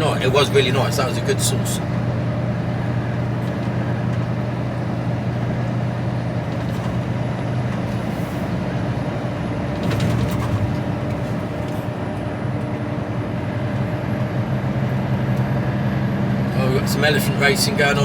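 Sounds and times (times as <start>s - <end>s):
diesel engine droning: 0.0s - 18.0s
road and wind noise: 0.0s - 18.0s.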